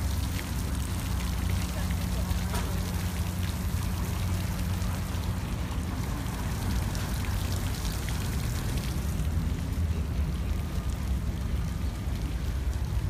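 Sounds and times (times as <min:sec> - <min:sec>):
water sprinklers spraying: 0:00.0 - 0:13.0.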